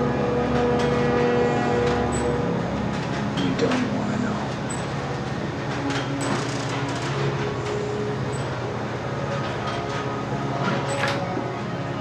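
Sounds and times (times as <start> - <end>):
dark rumbling horror score drone: 0.0 - 12.0.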